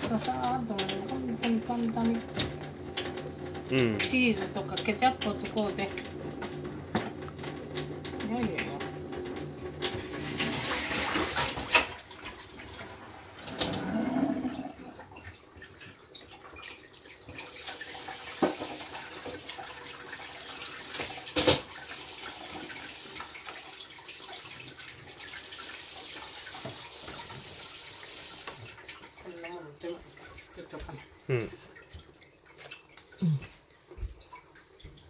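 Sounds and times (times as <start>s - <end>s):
tap water running into sink: 0.0s - 35.0s.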